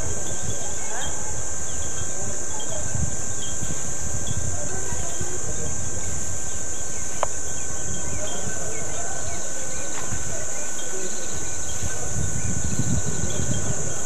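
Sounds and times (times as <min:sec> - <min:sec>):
insect chorus drone: 0:00.0 - 0:14.0
wind on microphone: 0:00.0 - 0:14.0.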